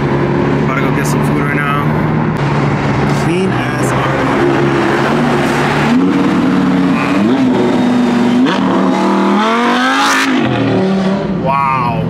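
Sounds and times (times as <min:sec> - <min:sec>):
sports car engine accelerating: 0:00.0 - 0:11.4.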